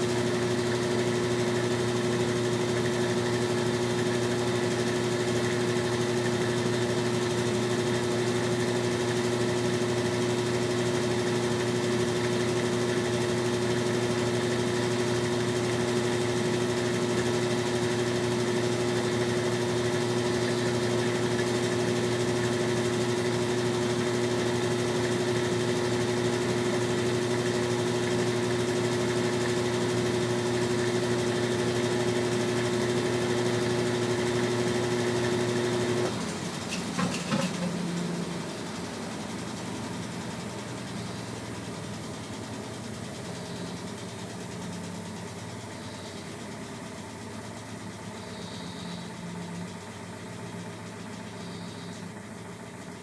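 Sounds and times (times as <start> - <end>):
washing machine motor humming: 0.0 - 53.0.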